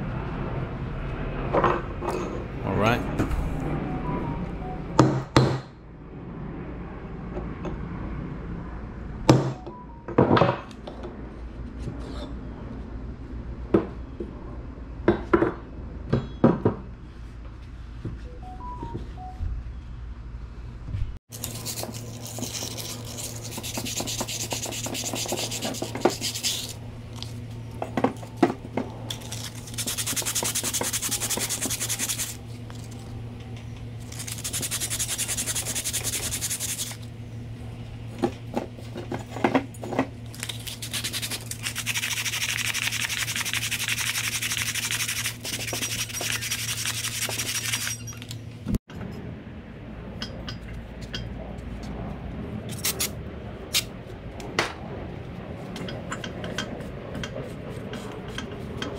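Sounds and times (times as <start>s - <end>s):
steady low hum: 0.0s - 10.1s, 19.0s - 58.9s.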